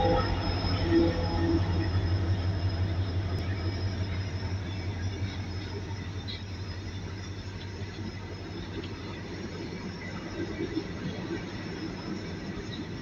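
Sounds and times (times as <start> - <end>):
freight wagons rolling on rails: 0.0 - 13.0
locomotive diesel engine drone: 0.0 - 13.0.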